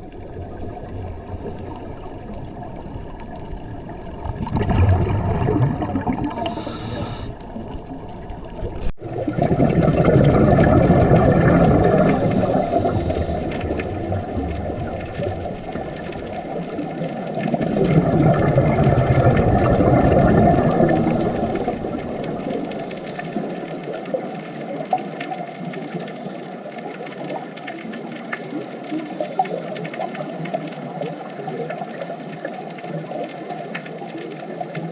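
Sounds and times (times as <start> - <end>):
underwater rushing and bubbling: 0.0 - 34.9.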